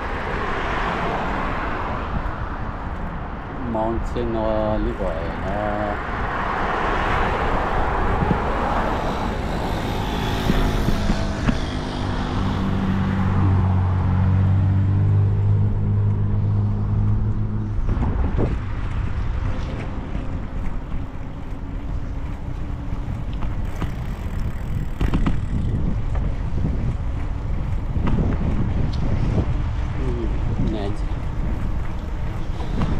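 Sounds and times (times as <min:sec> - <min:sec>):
vehicle engine humming: 0:00.0 - 0:32.9
wind rushing over microphone: 0:00.0 - 0:32.9.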